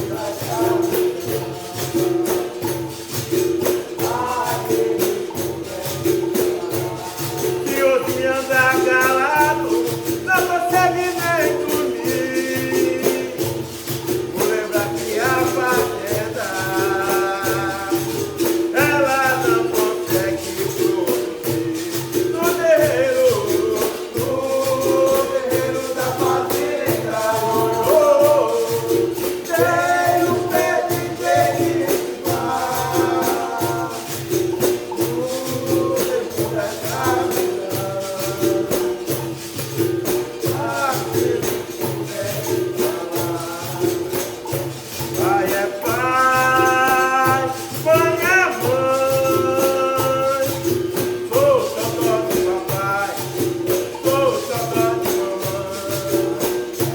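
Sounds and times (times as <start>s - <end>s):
berimbau: 0.0s - 56.9s
pandeiro jingling: 0.0s - 56.9s
person singing: 3.8s - 39.2s, 45.1s - 56.9s.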